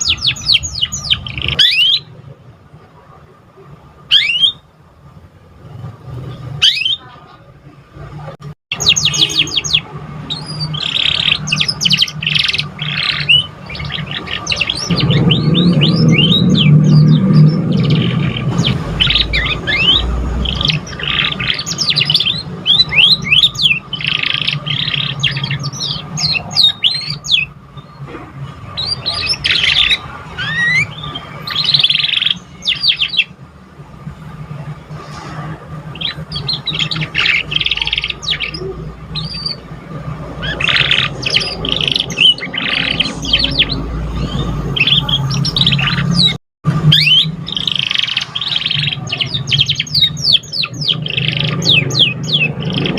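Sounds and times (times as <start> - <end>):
canary singing: 0.0 - 52.9.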